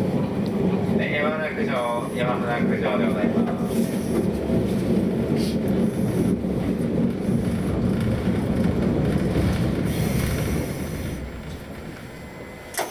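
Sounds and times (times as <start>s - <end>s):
streetcar rumbling on rails: 0.0s - 12.9s.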